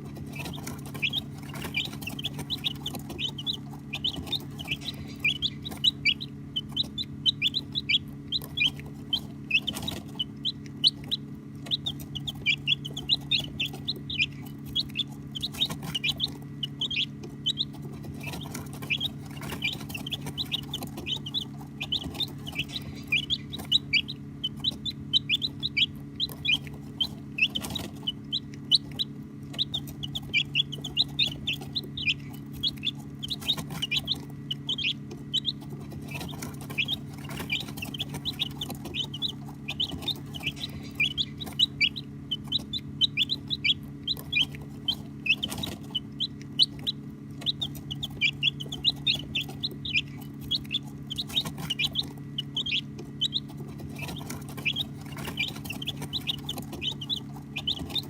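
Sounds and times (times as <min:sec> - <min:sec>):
baby chicks peeping: 0:00.0 - 0:58.0
steady low hum: 0:00.0 - 0:58.0.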